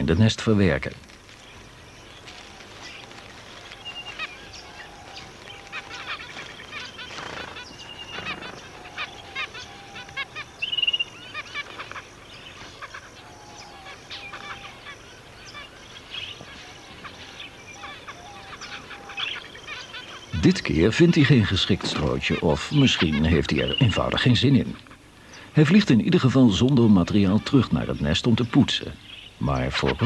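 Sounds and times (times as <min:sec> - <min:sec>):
finches chirping: 0:00.0 - 0:30.0
rapid buzzy finch call: 0:01.6 - 0:30.0.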